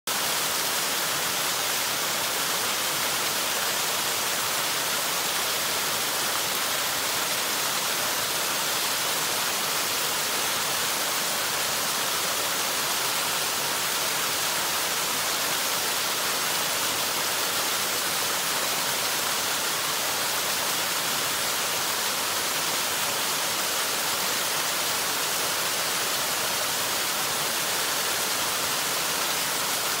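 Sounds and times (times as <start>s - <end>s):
waterfall rushing over rocks: 0.1s - 30.0s.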